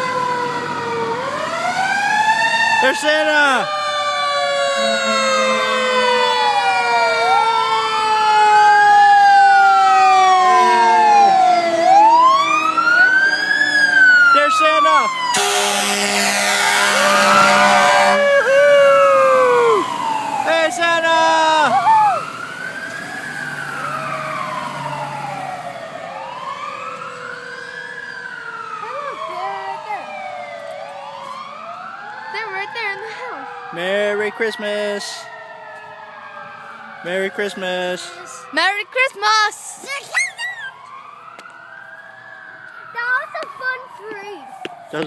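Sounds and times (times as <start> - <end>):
steady siren tone sinking: 0.0 - 39.6, 40.3 - 45.0
fire engine siren wailing: 0.0 - 45.0.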